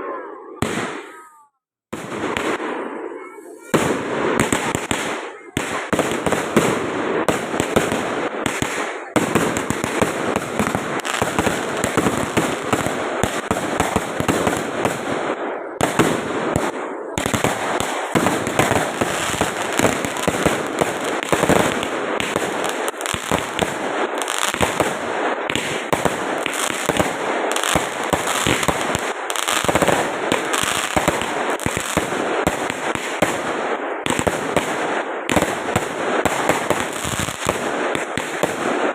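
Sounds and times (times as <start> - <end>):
fireworks crackling and banging: 0.0 - 38.9.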